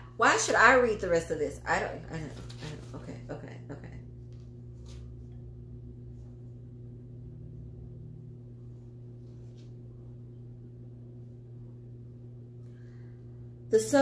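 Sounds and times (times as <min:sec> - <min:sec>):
low humming drone: 0:00.0 - 0:14.0.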